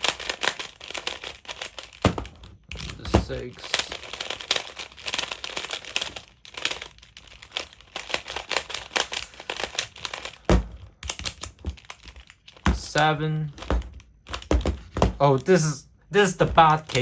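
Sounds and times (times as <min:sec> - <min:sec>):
puzzle cube plastic clicking: 0:00.0 - 0:17.0.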